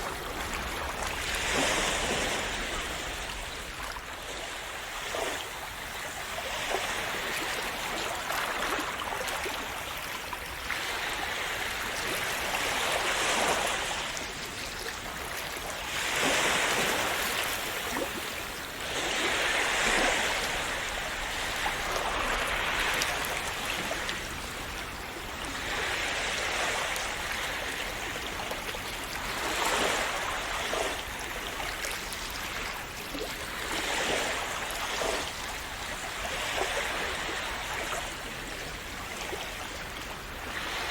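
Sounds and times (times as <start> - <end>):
small waves splashing on shore: 0.0 - 40.9.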